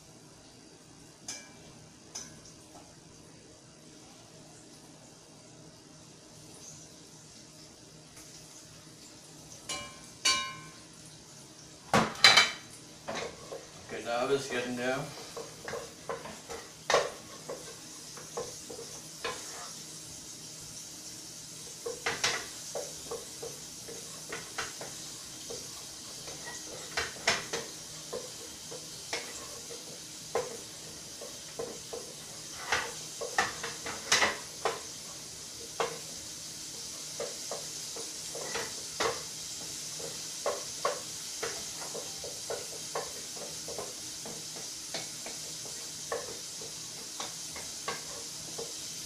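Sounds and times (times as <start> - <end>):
faint sizzle: 0.0 - 49.0.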